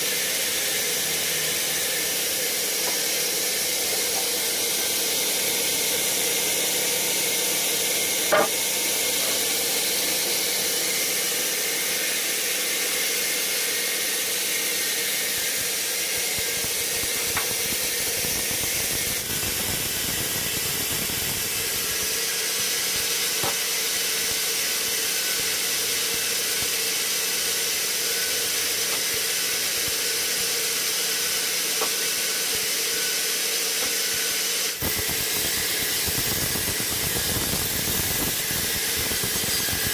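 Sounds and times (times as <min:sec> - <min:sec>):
sawmill machinery hiss and hum: 0:00.0 - 0:39.9.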